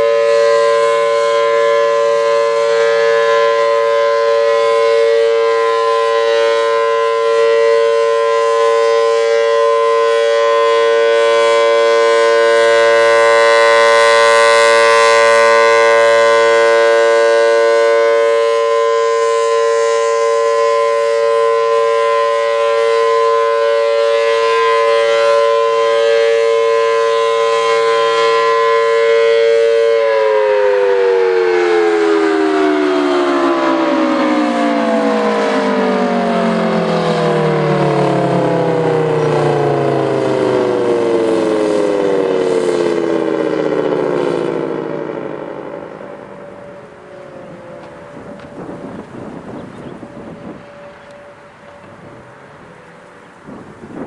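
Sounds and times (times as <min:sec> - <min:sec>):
warning siren multi-tone chord: 0:00.0 - 0:54.0.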